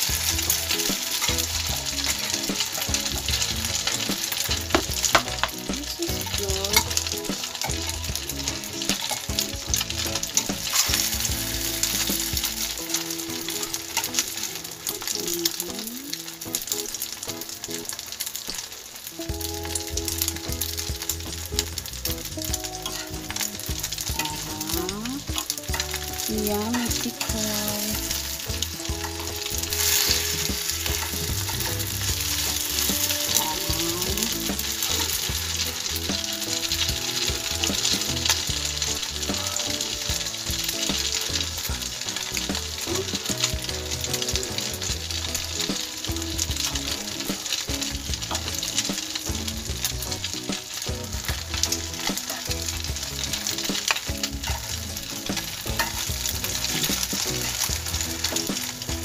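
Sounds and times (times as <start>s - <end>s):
rice cake sizzling in oil: 0.0s - 59.0s.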